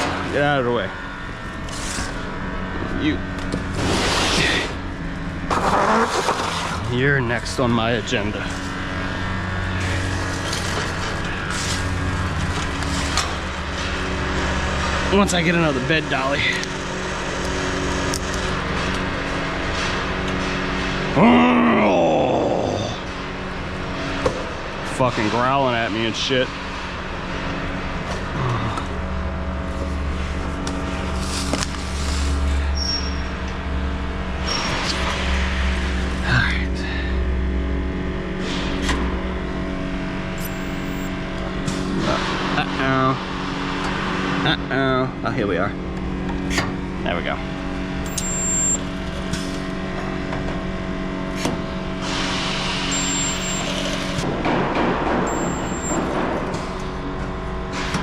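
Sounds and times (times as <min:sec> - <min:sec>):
spot welder droning: 0:00.0 - 0:58.0.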